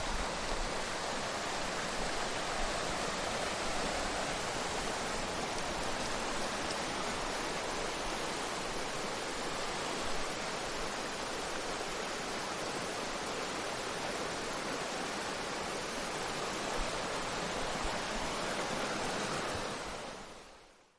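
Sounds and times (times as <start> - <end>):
river water rushing: 0.0 - 20.8.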